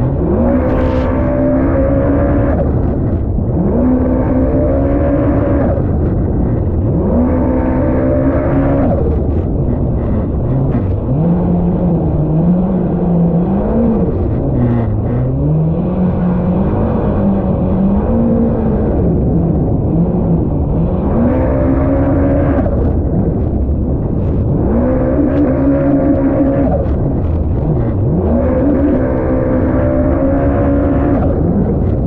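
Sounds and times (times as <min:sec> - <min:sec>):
jet ski engine revving: 0:00.0 - 0:32.0.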